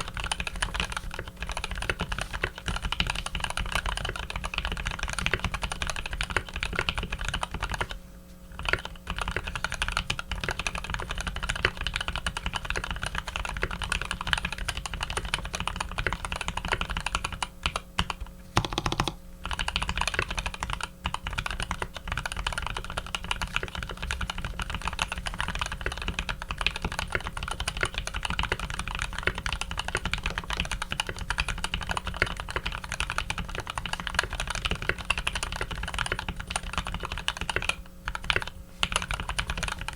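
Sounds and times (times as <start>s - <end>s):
fast typing on mechanical keyboard: 0.0s - 8.0s, 8.6s - 39.9s.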